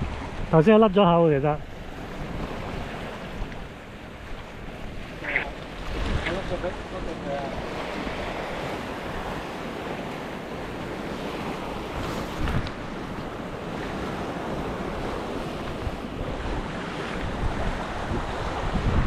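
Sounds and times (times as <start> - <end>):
waves washing against shore: 0.0 - 19.0
wind buffeting microphone: 1.6 - 19.0.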